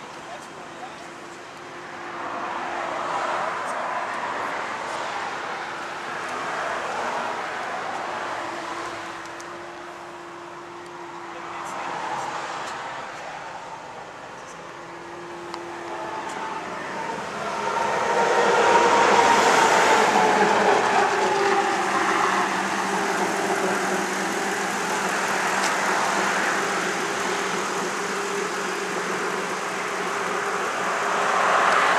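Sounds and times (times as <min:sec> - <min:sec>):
motor vehicle passing: 0:01.8 - 0:31.9.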